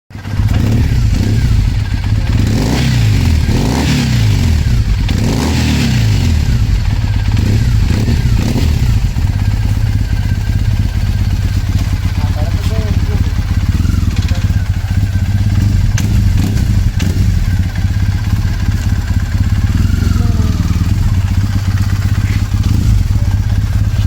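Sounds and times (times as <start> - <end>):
motorcycle engine revving and idling: 0.1 - 24.0.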